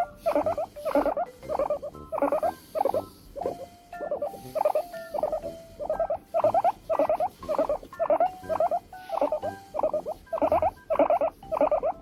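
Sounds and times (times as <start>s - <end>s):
guinea pig chirping: 0.0s - 12.0s.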